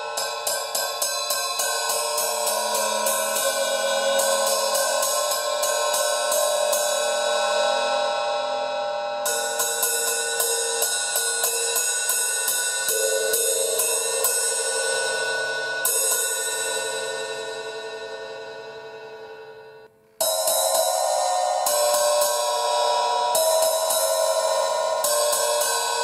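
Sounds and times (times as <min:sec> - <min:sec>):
hi-hat cymbal strokes ringing: 0:00.0 - 0:08.3, 0:09.2 - 0:26.0.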